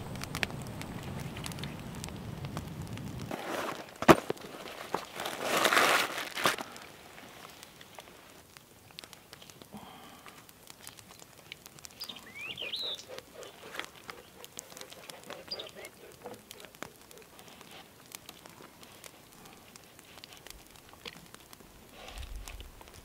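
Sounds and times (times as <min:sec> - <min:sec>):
small clicks and rustles: 0:00.0 - 0:23.0.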